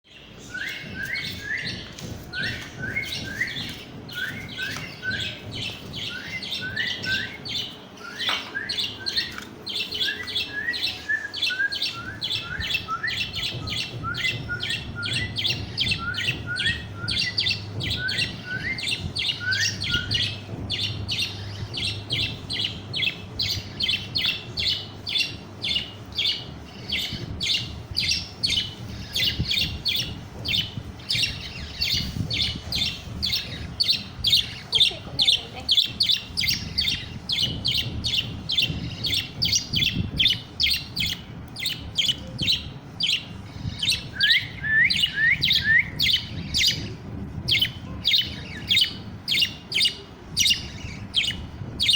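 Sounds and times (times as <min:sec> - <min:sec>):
budgerigar chick chirping: 0:02.4 - 0:46.9, 0:47.5 - 0:51.9.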